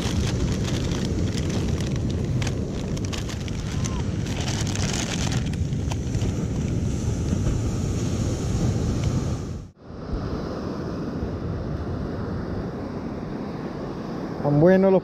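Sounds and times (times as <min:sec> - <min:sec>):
wind buffeting microphone: 0:00.0 - 0:14.4
surf washing: 0:00.0 - 0:15.0.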